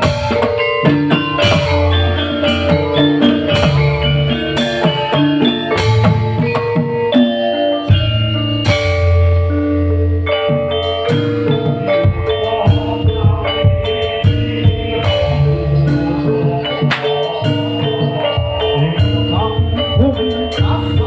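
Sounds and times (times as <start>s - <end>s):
live band music: 0.0s - 21.0s
percussion strikes: 0.0s - 21.0s.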